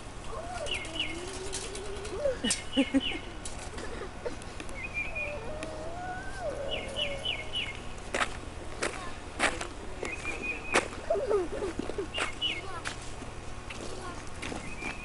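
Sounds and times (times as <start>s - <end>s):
small birds chirping: 0.2s - 8.1s, 9.9s - 13.0s, 13.8s - 15.0s.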